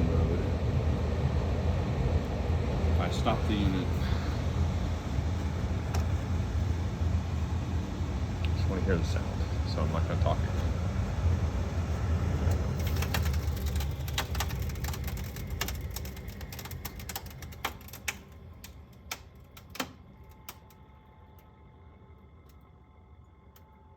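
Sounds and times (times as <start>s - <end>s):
heater fan hum winding down: 0.0s - 23.9s
heater clicking and ticking: 2.2s - 21.6s.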